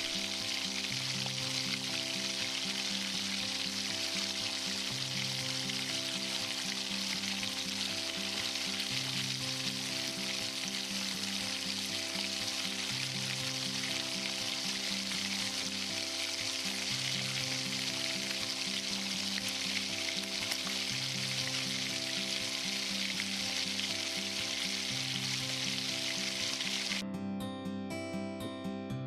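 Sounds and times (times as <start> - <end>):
chicken sizzling in oil: 0.0 - 27.0
soft background music: 0.0 - 29.0.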